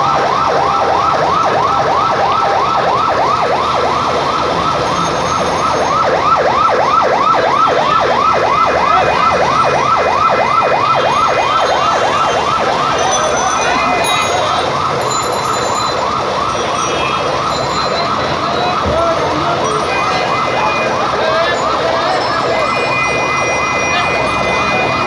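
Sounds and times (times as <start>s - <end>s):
fire engine siren yelping: 0.0s - 25.0s
street traffic noise: 0.0s - 25.0s.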